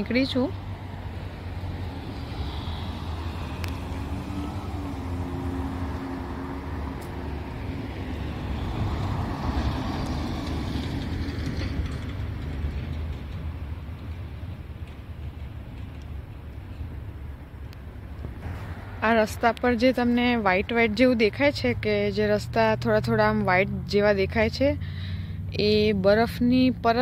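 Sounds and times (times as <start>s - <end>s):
low traffic rumble: 0.0s - 27.0s
vehicle passing on road: 0.0s - 27.0s.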